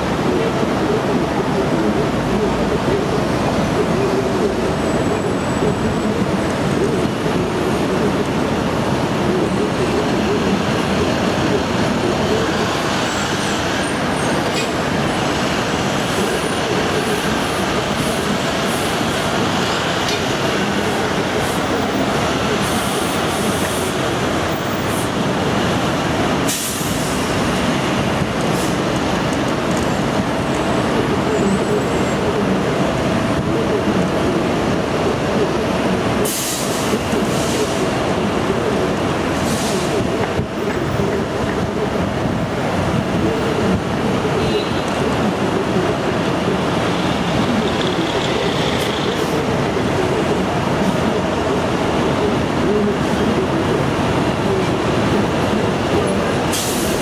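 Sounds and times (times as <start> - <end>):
aircraft and ground equipment roar: 0.0 - 57.0.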